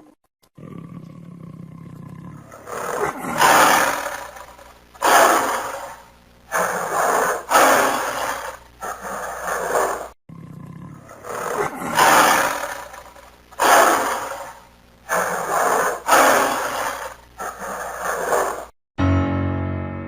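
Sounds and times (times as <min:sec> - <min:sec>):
lion roaring: 0:00.6 - 0:18.7.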